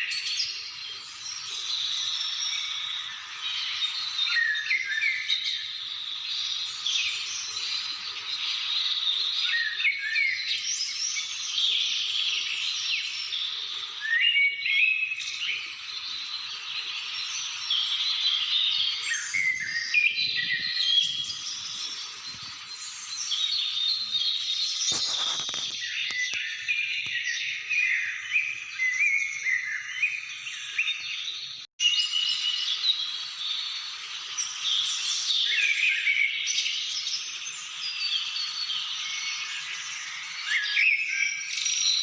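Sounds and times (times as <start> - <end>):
chorus of birds singing: 0.0 - 42.0.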